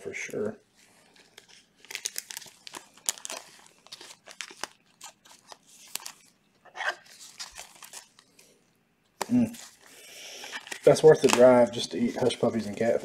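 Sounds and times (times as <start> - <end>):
crinkling: 0.0 - 13.0
cards rustling and sliding: 0.3 - 8.5, 9.2 - 13.0.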